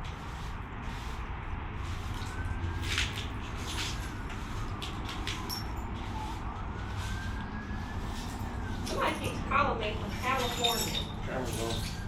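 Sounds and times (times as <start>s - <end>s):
distant siren wailing: 0.6s - 12.0s.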